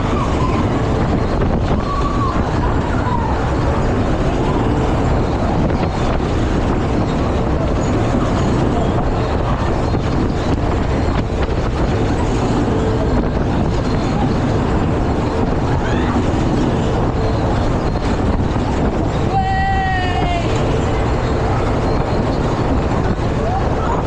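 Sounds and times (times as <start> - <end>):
fairground ride rumbling: 0.0 - 24.0.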